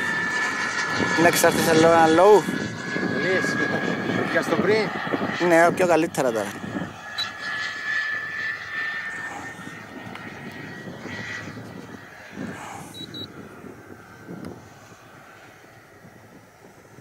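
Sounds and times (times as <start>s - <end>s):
jet turbine whine: 0.0s - 17.0s.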